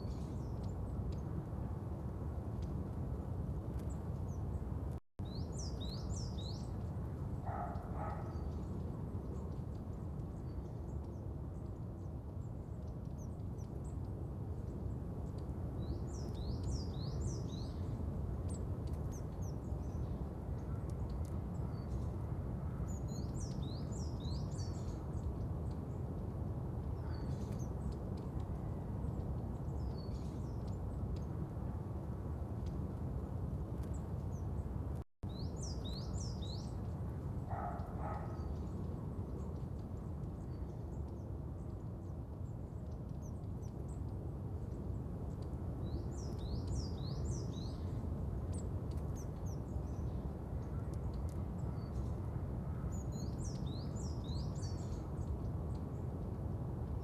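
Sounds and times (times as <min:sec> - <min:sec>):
low outdoor background hum: 0:00.0 - 0:57.0
small birds chirping: 0:00.0 - 0:57.0.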